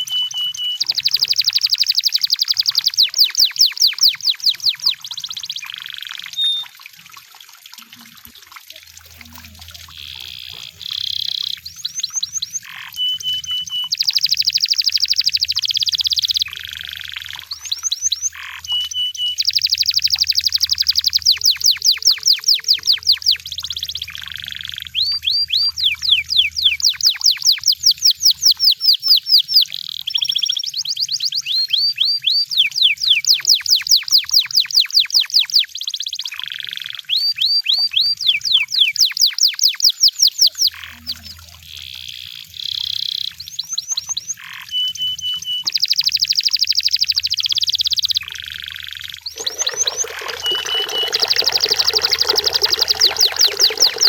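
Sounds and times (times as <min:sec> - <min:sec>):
canary singing: 0:00.0 - 0:06.7, 0:09.3 - 0:54.0.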